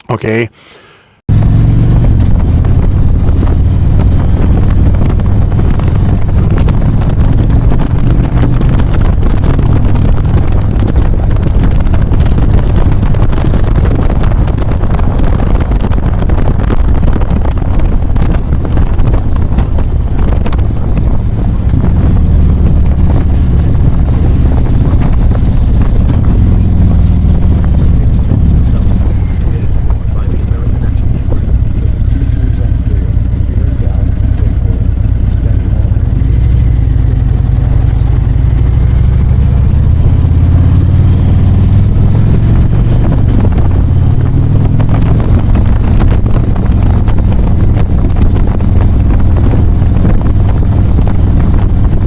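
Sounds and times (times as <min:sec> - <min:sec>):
motorcycle engine running: 0:01.3 - 0:52.0
wind rushing over microphone: 0:01.3 - 0:52.0.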